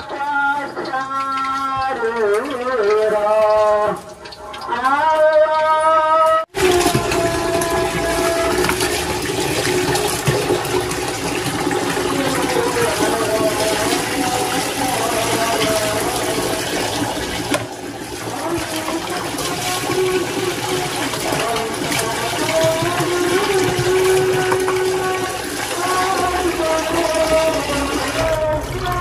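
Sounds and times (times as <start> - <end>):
water running and splashing: 0.0 - 29.0.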